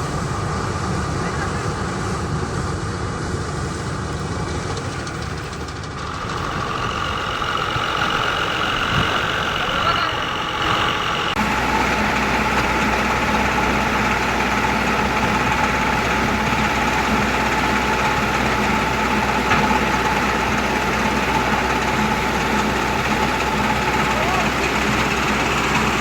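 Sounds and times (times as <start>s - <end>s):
harvester engine drone: 0.0s - 26.0s.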